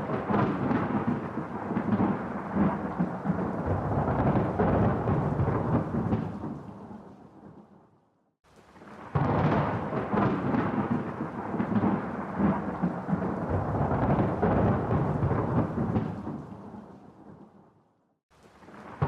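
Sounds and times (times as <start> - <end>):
thunder crack and rumble: 0.0 - 7.7, 9.0 - 17.6.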